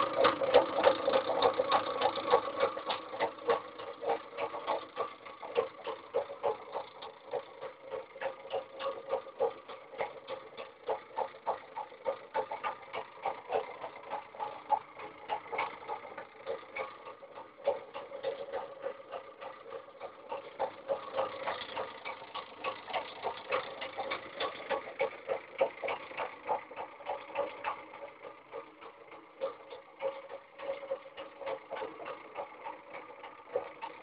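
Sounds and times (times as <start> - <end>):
rapid uneven clicking: 0.0 - 34.0.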